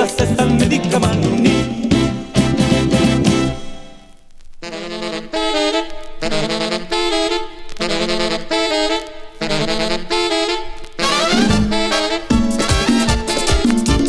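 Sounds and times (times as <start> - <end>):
merengue music from a record: 0.0 - 4.2, 6.3 - 14.0
saxophone riffs: 0.0 - 14.0.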